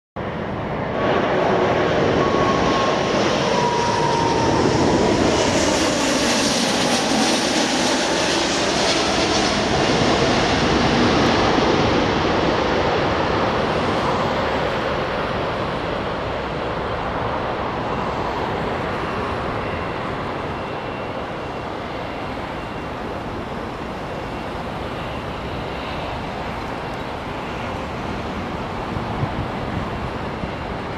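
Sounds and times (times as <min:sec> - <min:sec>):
jet engine whine: 0:00.2 - 0:30.9
loud jet noise: 0:00.2 - 0:30.9.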